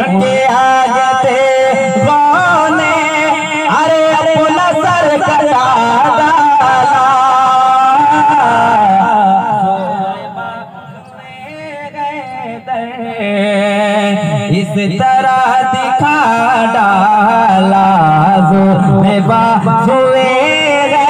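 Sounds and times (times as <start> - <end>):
man singing into microphone: 0.0 - 21.0.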